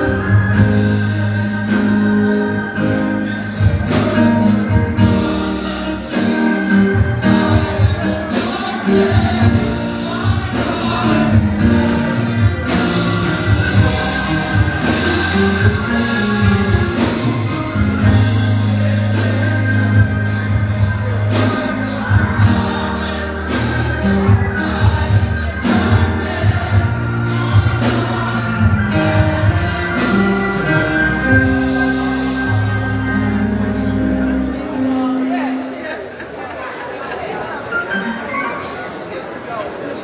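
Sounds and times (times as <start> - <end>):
held bass notes: 0.0 - 35.7
choir singing gospel music: 0.0 - 39.7.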